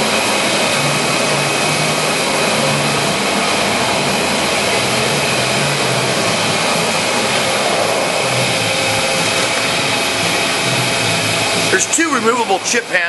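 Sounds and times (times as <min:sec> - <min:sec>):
lathe machine whir: 0:00.0 - 0:13.0.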